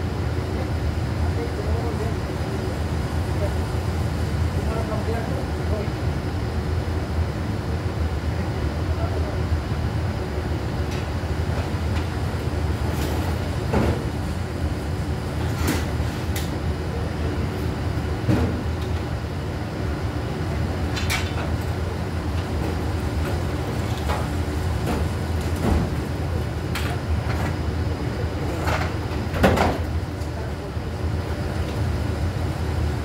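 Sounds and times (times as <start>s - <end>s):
low machinery hum: 0.0s - 33.0s.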